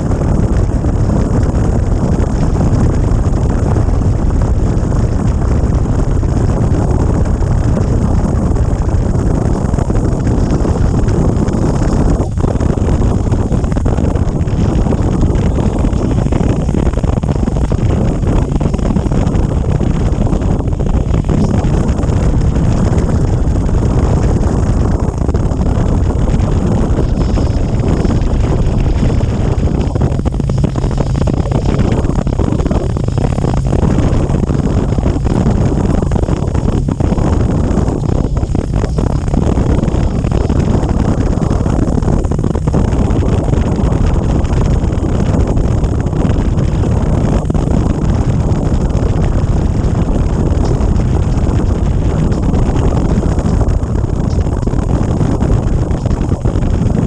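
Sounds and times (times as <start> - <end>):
motorcycle engine and tyre noise: 0.0 - 57.0
wind rushing over microphone: 0.0 - 57.0.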